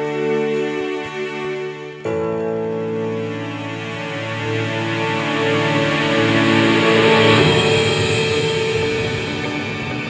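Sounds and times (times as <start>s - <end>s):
held chords background music: 0.0s - 10.0s.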